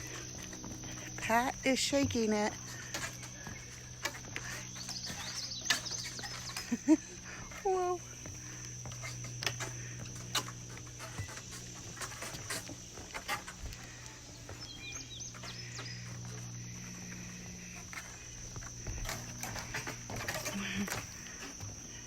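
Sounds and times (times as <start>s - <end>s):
high-pitched insect drone: 0.0s - 22.0s.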